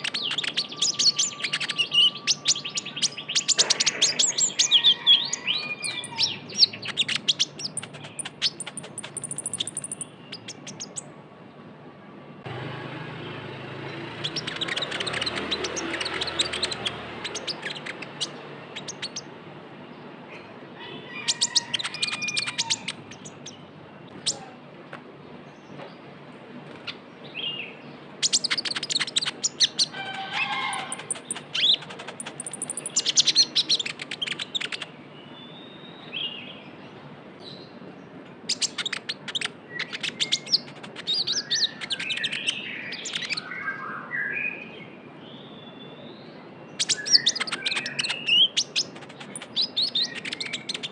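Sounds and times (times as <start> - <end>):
songbird trilling and whistling: 0.0 - 11.1, 14.2 - 19.3, 21.2 - 24.5, 26.8 - 36.5, 38.5 - 44.7, 45.3 - 50.9.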